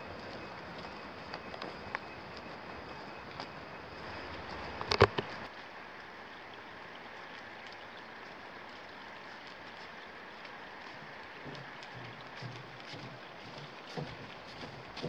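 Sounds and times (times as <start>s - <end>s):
faint footsteps: 0.0s - 5.8s, 7.6s - 15.0s
rain falling in a forest: 0.0s - 15.0s.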